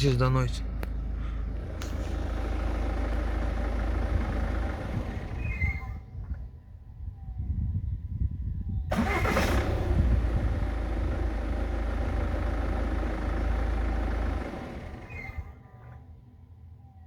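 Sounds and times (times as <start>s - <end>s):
engine cranking and idling: 0.0s - 6.6s, 8.9s - 16.5s.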